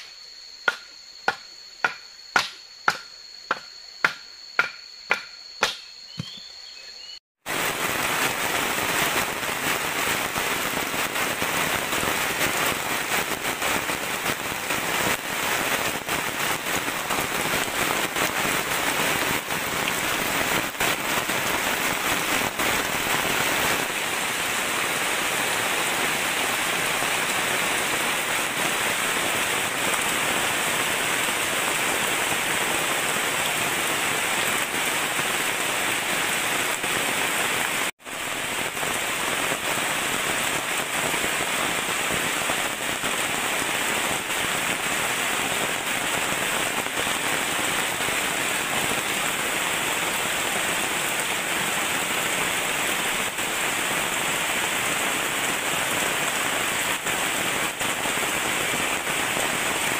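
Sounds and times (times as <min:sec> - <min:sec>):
heavy rain on foliage: 0:07.4 - 0:59.9.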